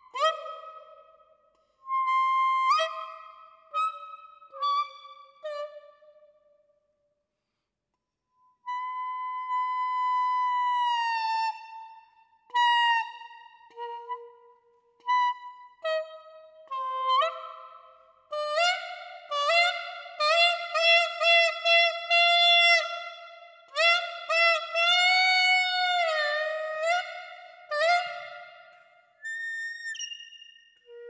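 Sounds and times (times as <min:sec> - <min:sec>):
clarinet mouthpiece reedy notes: 0:01.8 - 0:05.9, 0:08.6 - 0:11.5, 0:12.5 - 0:31.0.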